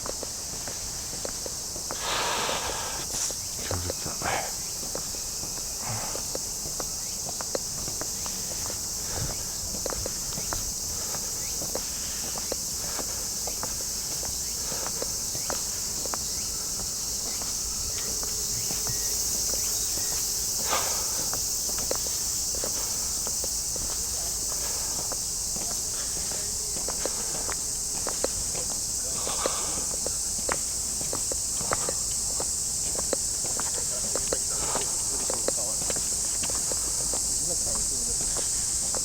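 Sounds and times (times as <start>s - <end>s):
cicadas chorus: 0.0s - 39.0s
footsteps: 0.0s - 39.0s.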